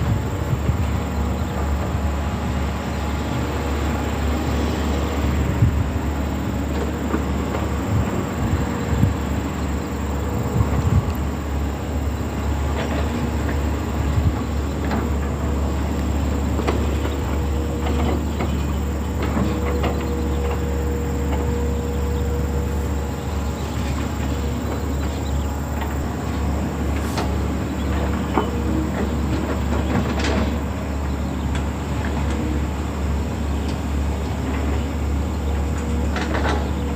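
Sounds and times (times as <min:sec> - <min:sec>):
diesel engine deep rumble: 0:00.0 - 0:36.9.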